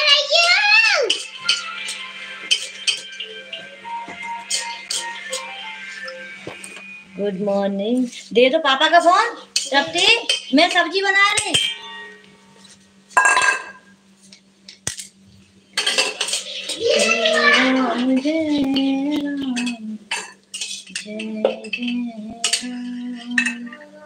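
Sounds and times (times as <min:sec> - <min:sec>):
utensils and pots clattering: 0:00.3 - 0:06.8, 0:09.0 - 0:13.9, 0:15.8 - 0:23.9.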